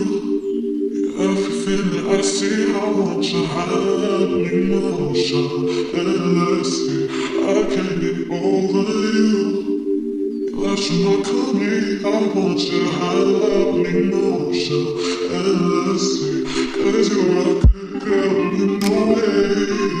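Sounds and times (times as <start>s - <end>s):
music with singing voices: 0.0s - 20.0s.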